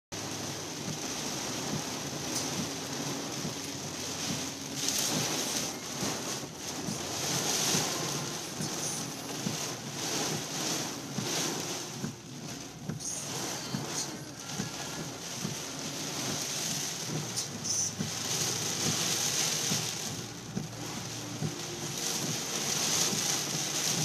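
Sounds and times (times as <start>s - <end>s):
heavy rain drumming on car roof: 0.1s - 24.0s.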